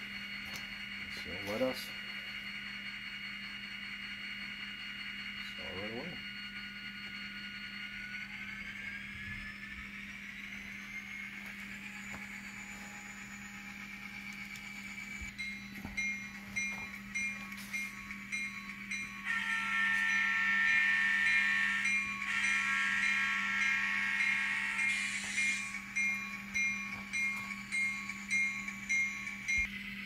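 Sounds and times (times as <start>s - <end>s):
turbo whine from small speaker: 0.0s - 30.0s.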